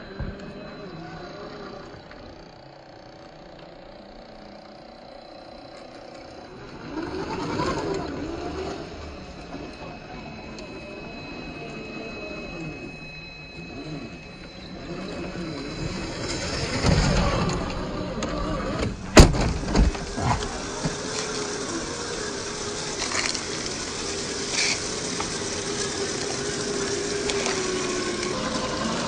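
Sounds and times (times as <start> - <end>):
toy car electric motor whining: 0.0 - 29.0.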